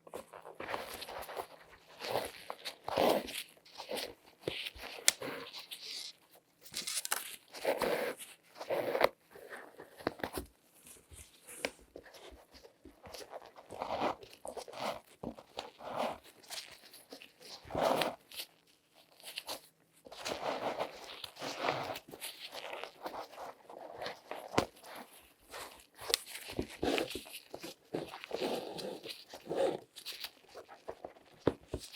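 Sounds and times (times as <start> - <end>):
latex gloves rustling and crinkling: 0.0 - 31.9.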